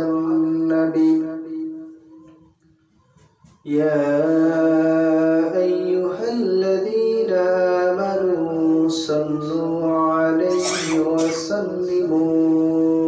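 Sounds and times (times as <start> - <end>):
man chanting melodically: 0.0 - 2.0, 3.6 - 13.0.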